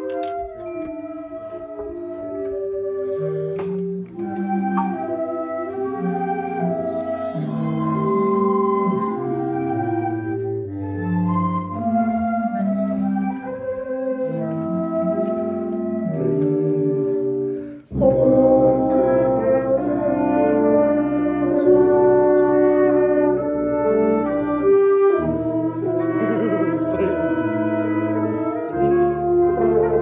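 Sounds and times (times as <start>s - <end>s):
wind ensemble playing brass chords: 0.0s - 30.0s.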